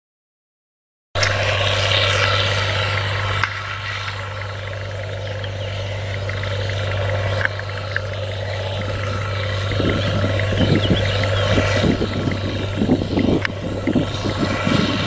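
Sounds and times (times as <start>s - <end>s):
tractor diesel engine droning: 1.2s - 15.0s.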